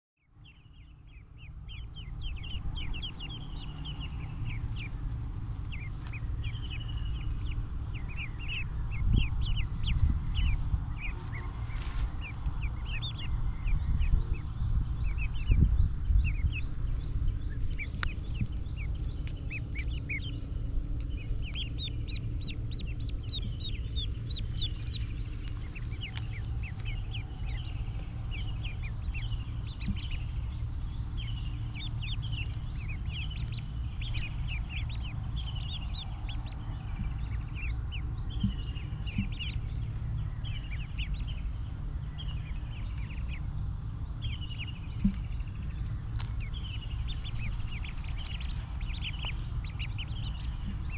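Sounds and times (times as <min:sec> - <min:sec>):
ducklings peeping: 0:00.2 - 0:50.9
steady low rumble: 0:00.2 - 0:50.9.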